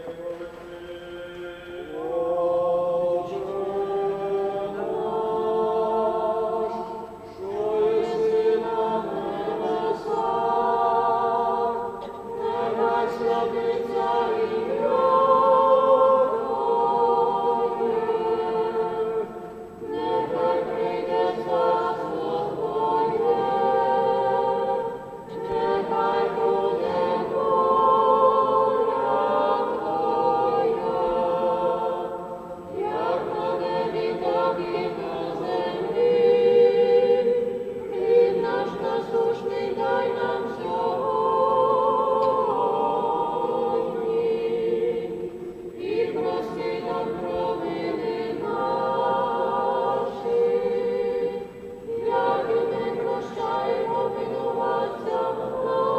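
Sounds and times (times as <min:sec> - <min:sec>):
group singing liturgical chant: 0:00.0 - 0:55.9.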